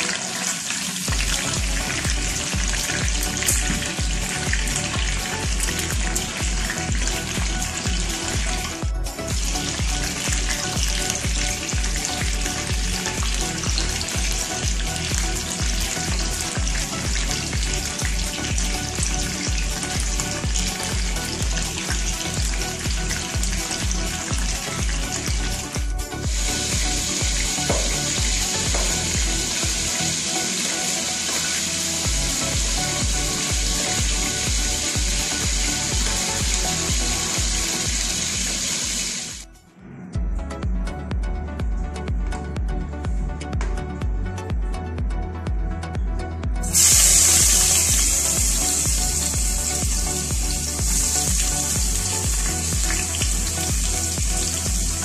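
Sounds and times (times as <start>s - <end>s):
fish sizzling in hot oil: 0.0s - 39.4s, 46.6s - 55.0s
background music with bass beat: 1.1s - 55.0s.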